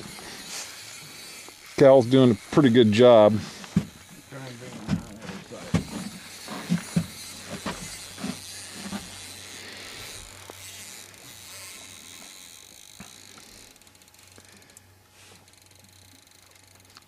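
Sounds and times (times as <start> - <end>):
fishing reel drag buzzing: 0.0 - 17.0.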